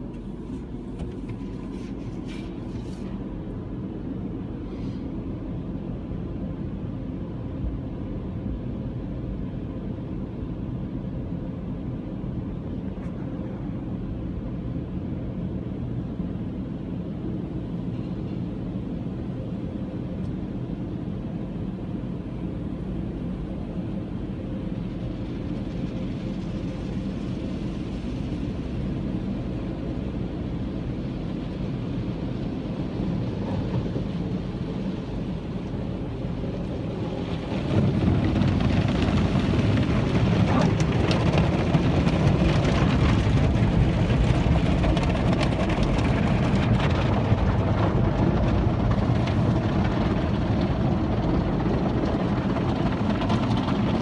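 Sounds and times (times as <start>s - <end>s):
car wash spraying water and machinery: 0.0s - 54.0s.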